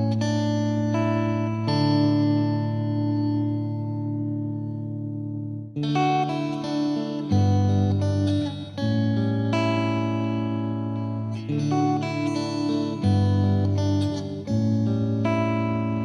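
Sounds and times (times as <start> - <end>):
plucked guitar chords: 0.0 - 16.0.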